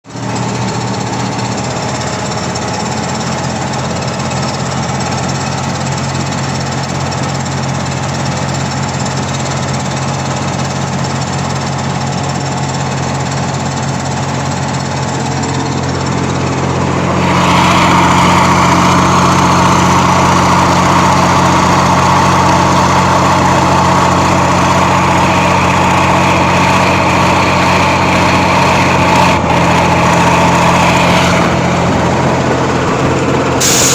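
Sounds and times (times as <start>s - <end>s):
high-pitched engine hum: 0.0s - 33.9s
tractor diesel engine droning: 0.0s - 33.9s.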